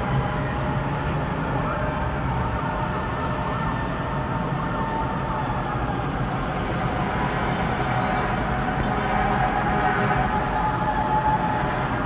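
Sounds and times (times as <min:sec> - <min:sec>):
city traffic hum: 0:00.0 - 0:12.0
distant emergency siren wailing: 0:00.0 - 0:12.0.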